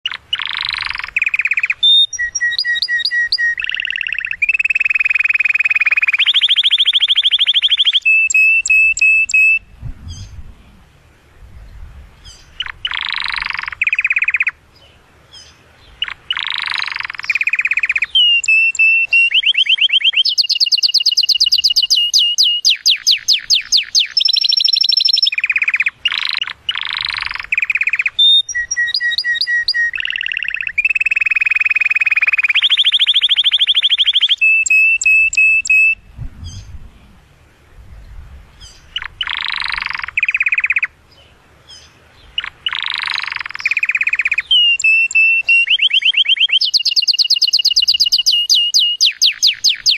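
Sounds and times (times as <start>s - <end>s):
canary singing trills: 0.0s - 10.4s, 12.2s - 36.7s, 38.6s - 49.9s.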